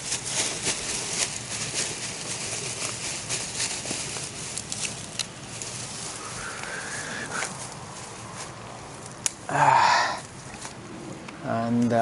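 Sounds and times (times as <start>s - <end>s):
dry grass rustling and crackling: 0.0s - 10.8s.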